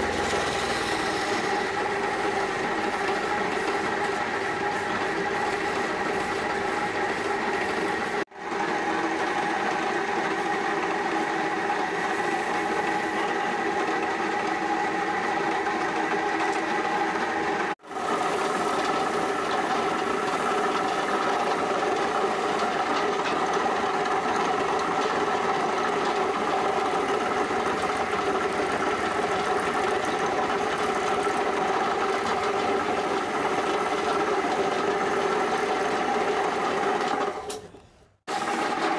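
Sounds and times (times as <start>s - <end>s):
wood lathe motor hum: 0.0s - 37.5s, 38.3s - 38.9s.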